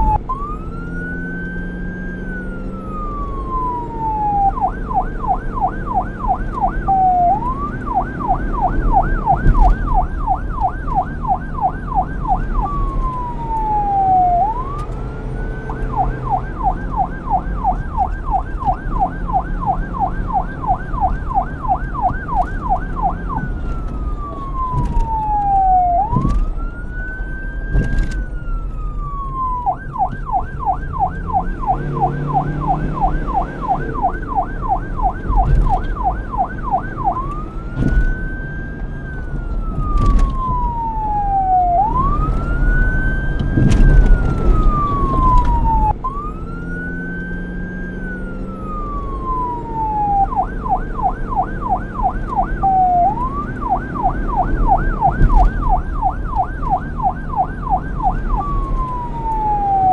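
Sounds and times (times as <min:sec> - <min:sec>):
police siren yelp and wail: 0:00.0 - 0:59.9.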